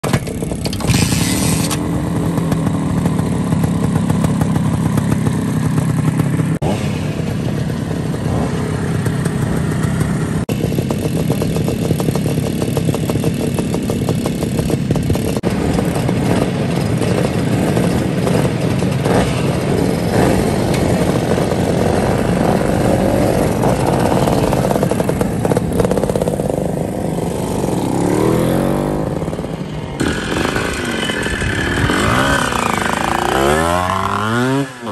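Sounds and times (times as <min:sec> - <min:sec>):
motorcycle engine revving: 0:00.0 - 0:34.9
motorcycle engines running: 0:00.0 - 0:34.9.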